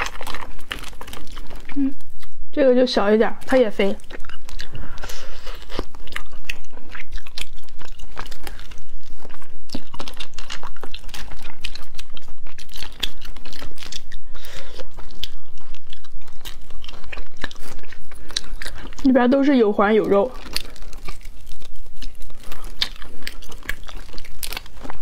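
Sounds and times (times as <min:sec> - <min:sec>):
crunching and chewing: 0:00.0 - 0:02.4, 0:03.2 - 0:25.0.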